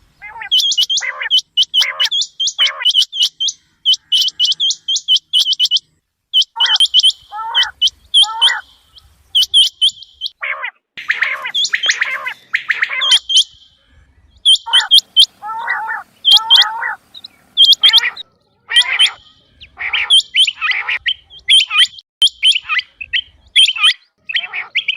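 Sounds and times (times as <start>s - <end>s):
quails calling: 0.0s - 13.8s, 14.4s - 24.9s.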